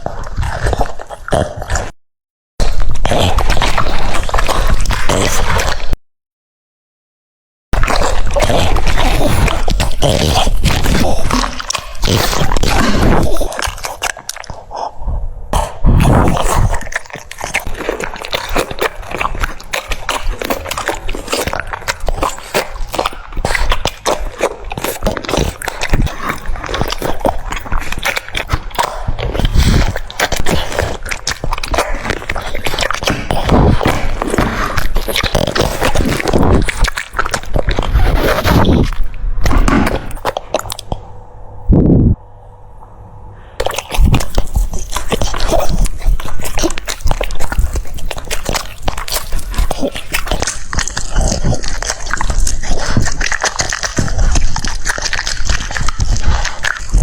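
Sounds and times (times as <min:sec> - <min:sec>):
dog chewing crunchy food: 0:00.0 - 0:01.9, 0:02.6 - 0:06.0, 0:07.8 - 0:14.8, 0:15.8 - 0:41.0, 0:43.6 - 0:57.0.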